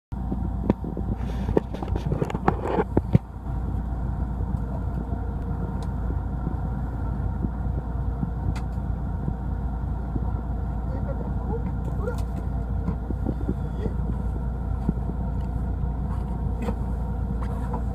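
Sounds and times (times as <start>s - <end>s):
boat engine humming: 0.1s - 17.9s.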